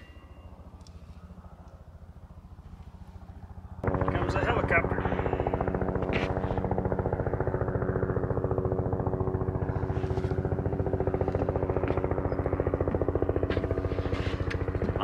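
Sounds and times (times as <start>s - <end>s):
helicopter rotor chopping: 0.6s - 15.0s.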